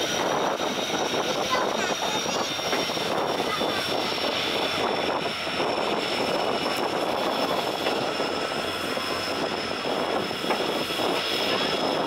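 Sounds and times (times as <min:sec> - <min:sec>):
locomotive drone: 0:00.0 - 0:12.0
train wheels rumbling on rails: 0:00.0 - 0:12.0.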